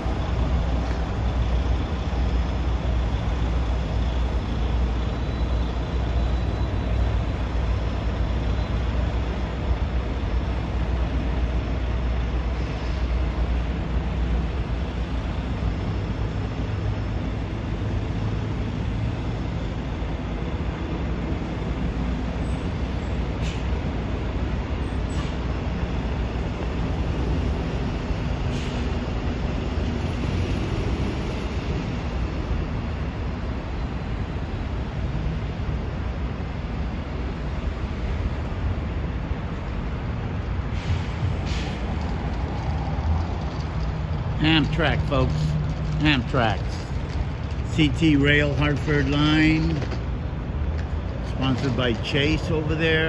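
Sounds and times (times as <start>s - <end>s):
heavy vehicle engines rumbling: 0.0s - 53.0s.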